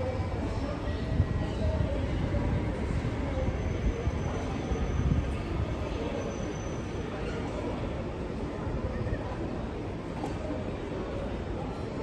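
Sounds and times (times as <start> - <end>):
distant train rumbling on tracks: 0.0 - 12.0.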